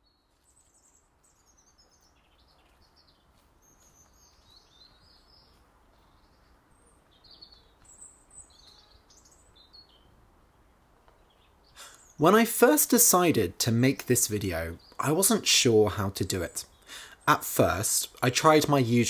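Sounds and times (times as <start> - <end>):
low steady background noise: 0.0 - 19.0
songbird chirps and warbles: 0.0 - 19.0.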